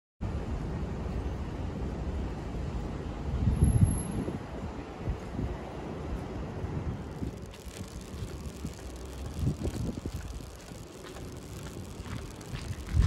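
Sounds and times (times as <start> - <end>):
faint traffic: 0.2 - 13.0
wind rumbling on microphone: 0.2 - 13.0.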